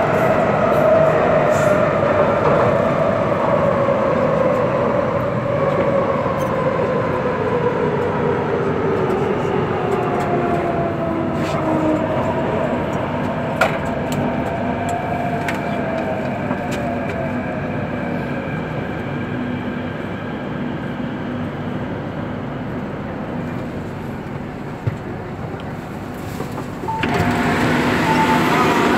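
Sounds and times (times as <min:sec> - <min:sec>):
metro train motor whine: 0:00.0 - 0:28.9
train rumble in tunnel: 0:00.0 - 0:28.9.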